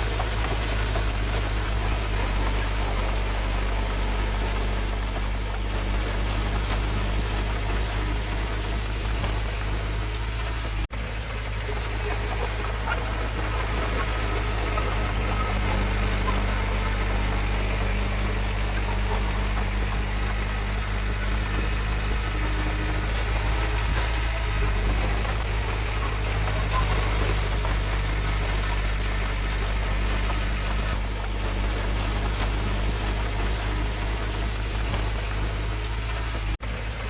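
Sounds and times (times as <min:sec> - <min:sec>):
heavy machinery diesel engine: 0:00.0 - 0:37.0.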